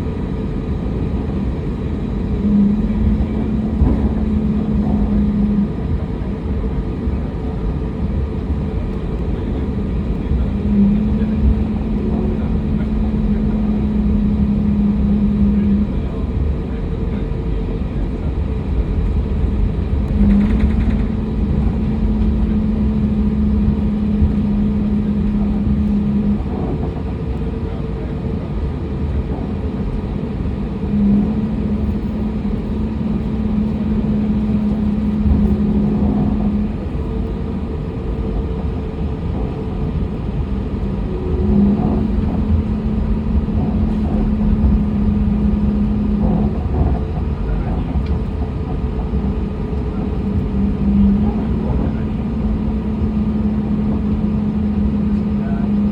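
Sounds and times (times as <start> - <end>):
airliner cabin rumble: 0.0 - 55.9
low hum: 0.0 - 55.9.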